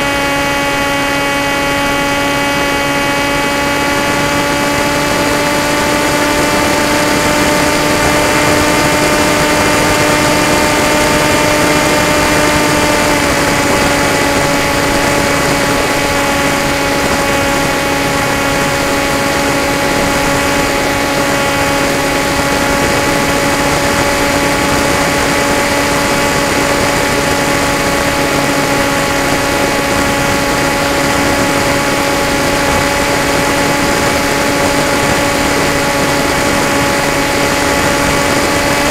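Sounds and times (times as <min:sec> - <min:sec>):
electric motor propeller whine: 0:00.0 - 0:38.9
rushing air noise: 0:00.0 - 0:38.9.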